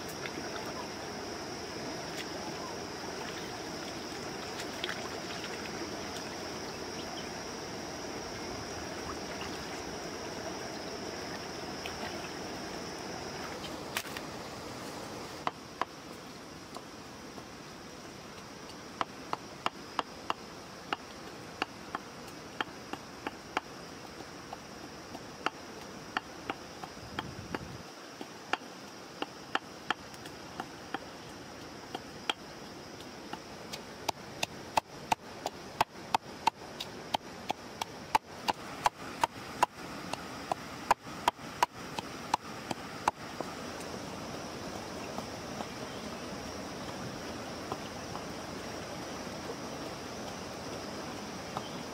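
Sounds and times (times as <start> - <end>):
stream running: 0.0 - 51.9.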